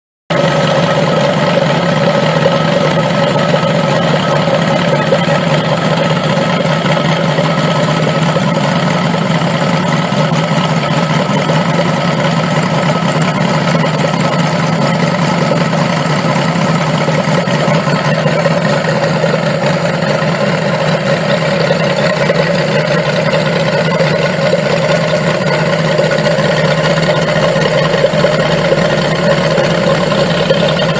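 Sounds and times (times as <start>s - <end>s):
model radial engine running: 0.3s - 30.9s.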